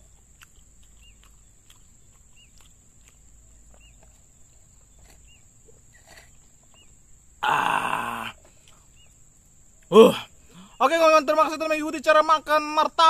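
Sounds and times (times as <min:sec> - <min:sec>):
bird chirping: 0:00.0 - 0:07.4, 0:08.5 - 0:11.8.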